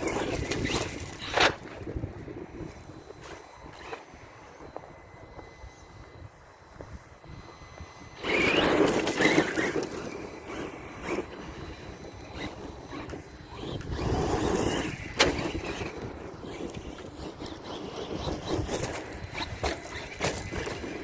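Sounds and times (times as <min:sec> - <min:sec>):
tyres churning dirt: 0:00.0 - 0:04.1, 0:08.2 - 0:21.0
electric motor whining: 0:00.0 - 0:21.0.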